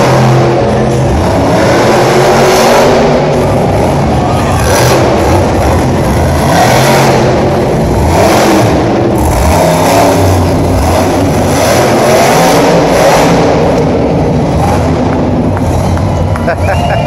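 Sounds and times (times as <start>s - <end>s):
truck engine revving loudly: 0.0s - 17.0s.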